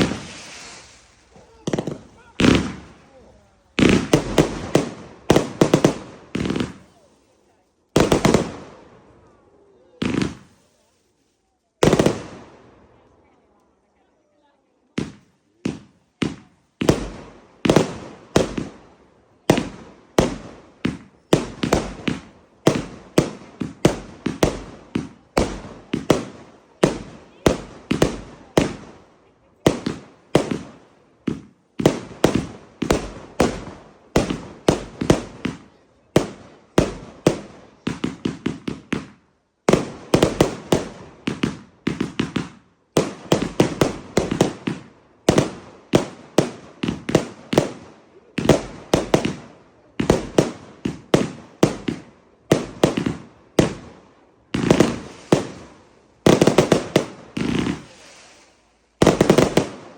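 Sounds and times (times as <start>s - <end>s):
fireworks sharp bangs: 0.0s - 9.1s, 10.0s - 10.8s, 11.8s - 12.8s, 14.9s - 59.9s.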